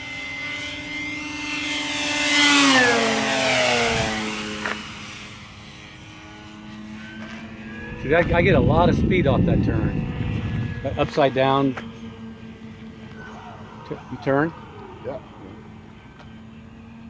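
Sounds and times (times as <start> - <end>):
model plane motor whine: 0.0 - 17.0.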